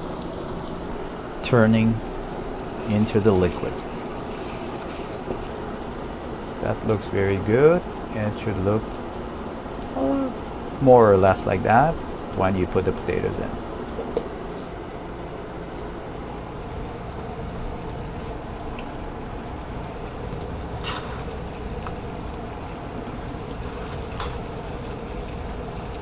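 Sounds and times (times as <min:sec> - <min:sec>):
stew simmering in a pot: 0:00.0 - 0:26.0.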